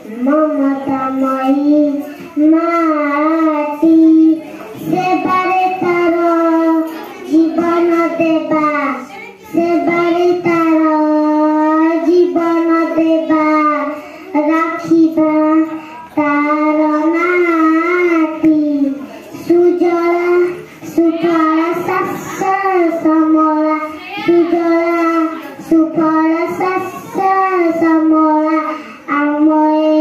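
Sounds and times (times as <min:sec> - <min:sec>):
girl singing into a microphone: 0:00.0 - 0:30.0.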